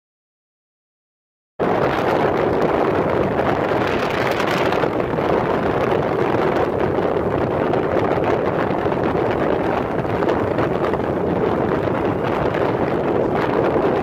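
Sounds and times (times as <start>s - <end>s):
wind rush on microphone: 1.6s - 14.0s.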